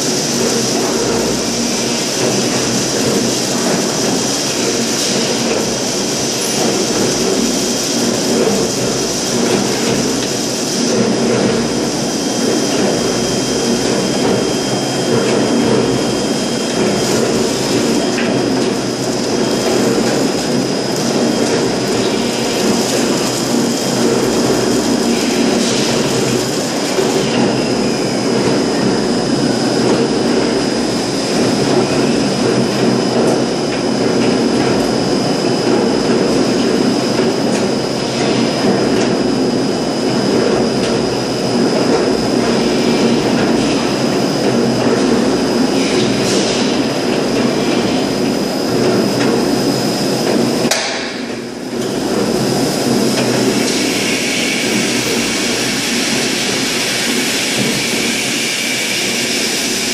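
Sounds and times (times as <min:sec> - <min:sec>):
machine hum with high whine: 0:00.0 - 0:59.9.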